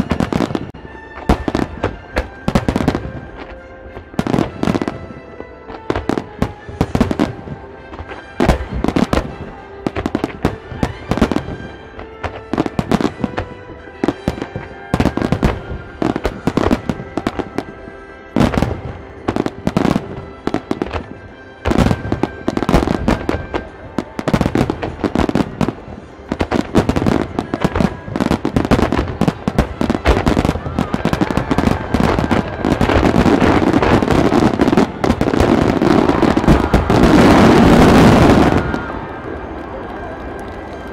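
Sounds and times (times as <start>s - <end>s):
firework crackling: 0.0s - 40.9s
music playing: 0.0s - 40.9s.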